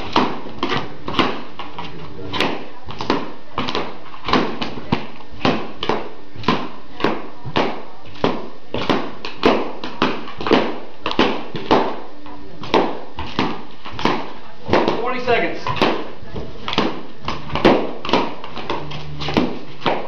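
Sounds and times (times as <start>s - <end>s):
balloons popping: 0.0s - 20.0s.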